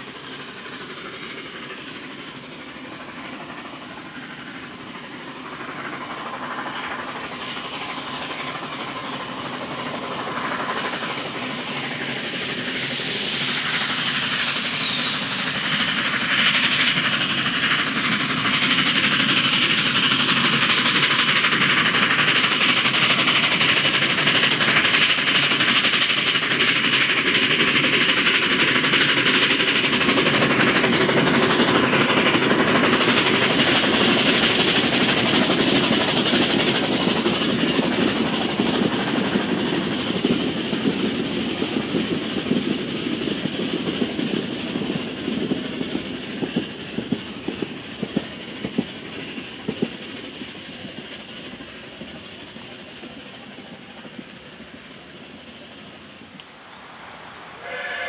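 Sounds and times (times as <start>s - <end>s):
steam hissing: 0.0s - 58.0s
steam locomotive exhaust: 0.0s - 58.0s.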